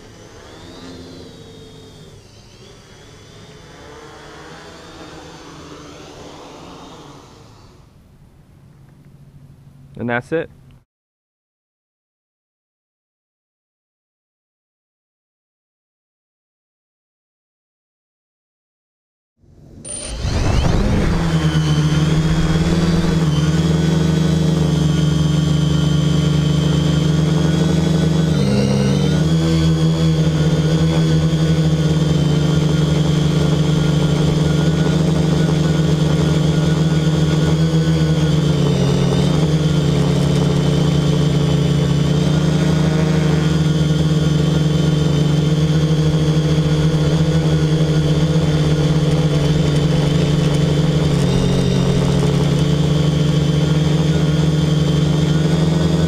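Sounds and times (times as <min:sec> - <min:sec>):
quadcopter motors droning: 0:00.0 - 0:10.5, 0:19.4 - 0:56.0.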